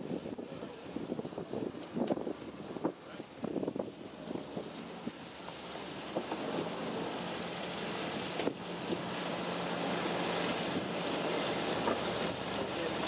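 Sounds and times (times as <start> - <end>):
boat engine hum: 0.0 - 13.0
sea washing around hull: 0.0 - 13.0
wind buffeting microphone: 0.0 - 13.0.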